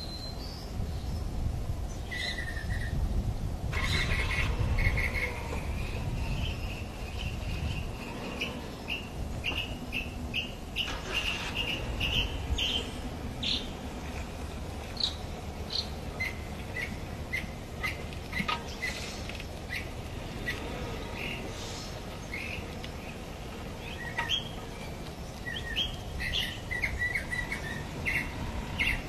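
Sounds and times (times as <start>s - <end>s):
steady low rumble: 0.4s - 29.0s
bird chirping: 3.8s - 29.0s.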